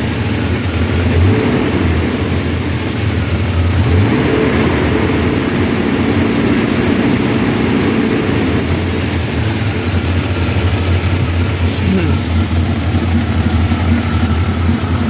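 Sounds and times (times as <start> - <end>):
car engine idling unevenly: 0.0 - 15.0.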